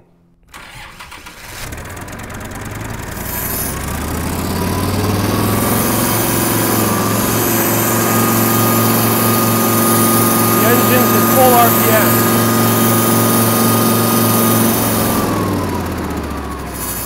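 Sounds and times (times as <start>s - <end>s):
tractor engine cranking and revving: 0.4s - 17.0s.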